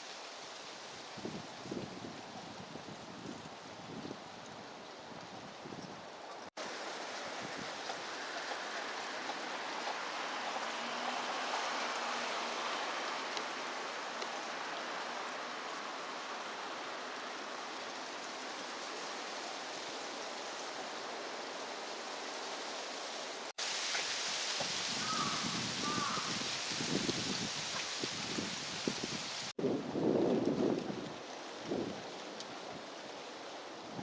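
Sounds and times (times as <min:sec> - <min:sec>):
running water rushing: 0:06.1 - 0:34.0.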